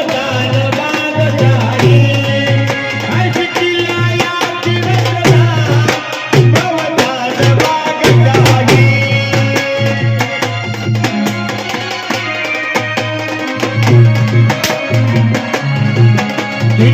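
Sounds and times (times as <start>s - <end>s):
held melodic instrument: 0.0s - 16.9s
tabla drums: 0.0s - 16.9s.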